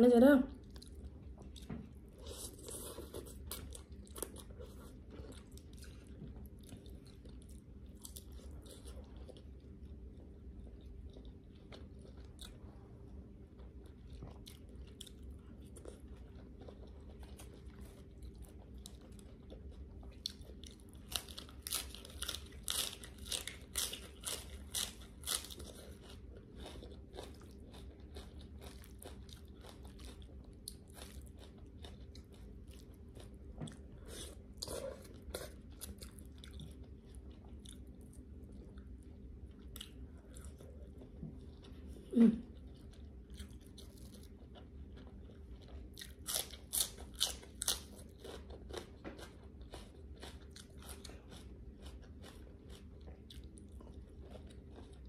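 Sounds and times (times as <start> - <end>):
person chewing wetly: 0.6 - 55.0.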